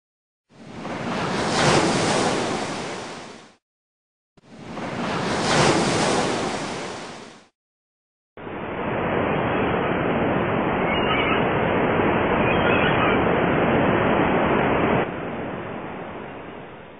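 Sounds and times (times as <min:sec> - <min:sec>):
small waves: 0:00.5 - 0:03.6, 0:04.4 - 0:07.5, 0:08.4 - 0:16.9
wind: 0:00.5 - 0:03.6, 0:04.4 - 0:07.5, 0:08.4 - 0:16.9.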